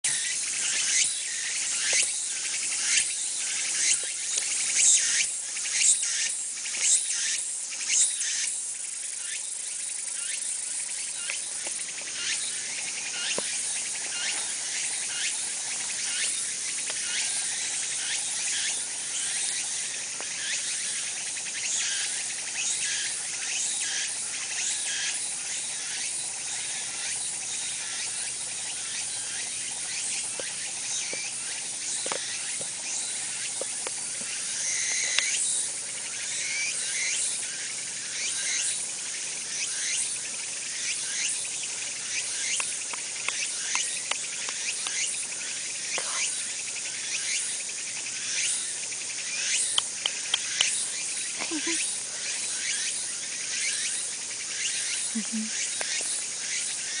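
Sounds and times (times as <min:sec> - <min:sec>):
insects buzzing shrilly: 0:00.1 - 0:57.0.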